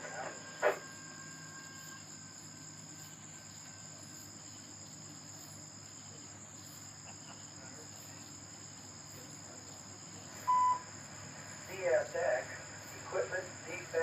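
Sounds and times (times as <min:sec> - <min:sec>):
crickets trilling: 0:00.0 - 0:14.0
faint low hum: 0:00.0 - 0:14.0.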